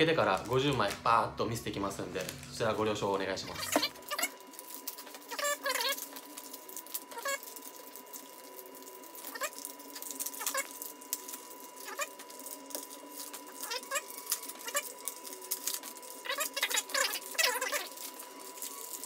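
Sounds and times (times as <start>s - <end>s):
foil wrappers tearing and crinkling: 0.0s - 19.0s.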